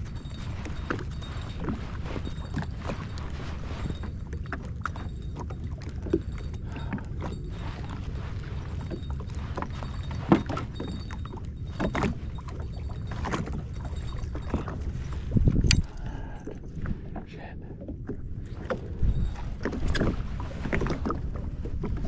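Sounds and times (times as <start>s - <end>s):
low rumble: 0.0s - 22.0s
waves lapping against hull: 0.0s - 22.0s.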